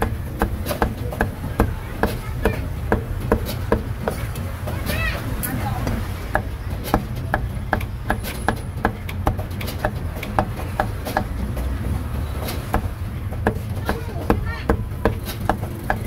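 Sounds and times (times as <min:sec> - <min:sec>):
cleaver chopping on wooden block: 0:00.0 - 0:05.0, 0:05.8 - 0:11.6, 0:12.4 - 0:16.0.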